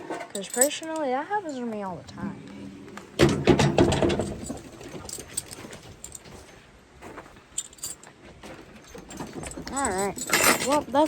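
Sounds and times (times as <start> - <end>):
metal clinking and rattling: 0.0 - 1.9, 3.2 - 6.6, 7.4 - 11.0.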